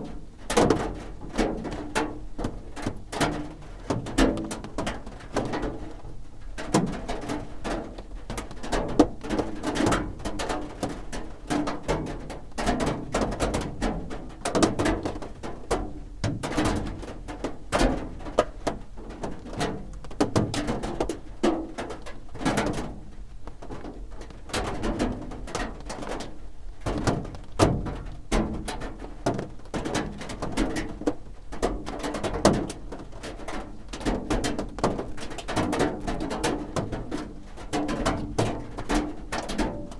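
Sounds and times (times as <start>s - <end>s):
rain drumming on a roof: 0.0s - 39.9s.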